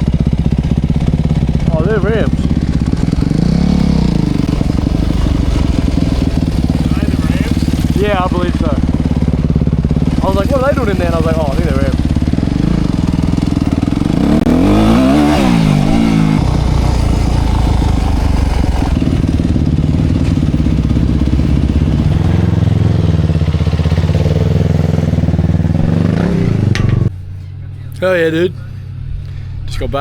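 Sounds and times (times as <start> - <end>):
dirt bike engine revving: 0.0 - 27.1.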